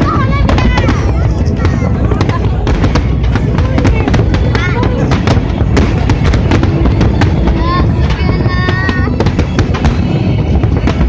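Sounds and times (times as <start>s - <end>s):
firework bangs and crackles: 0.0s - 11.0s
low rumble: 0.0s - 11.0s.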